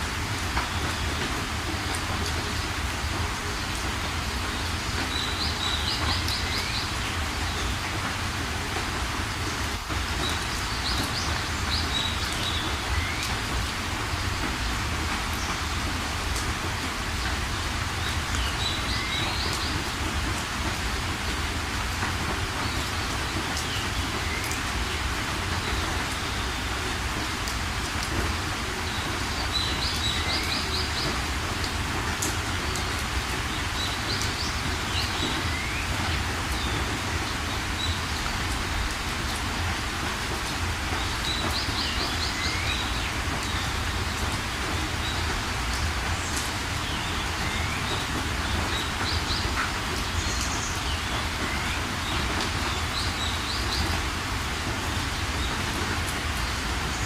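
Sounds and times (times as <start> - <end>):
heavy rain falling: 0.0 - 57.0
songbirds chirping: 0.6 - 20.4, 22.5 - 57.0.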